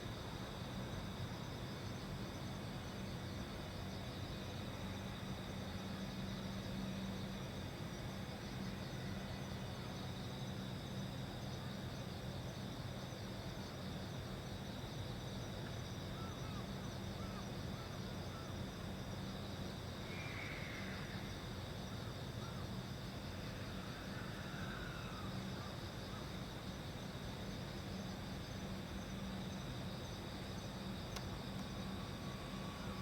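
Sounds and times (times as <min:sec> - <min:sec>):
continuous low hum: 0:00.0 - 0:33.0
high insect trill: 0:00.1 - 0:33.0.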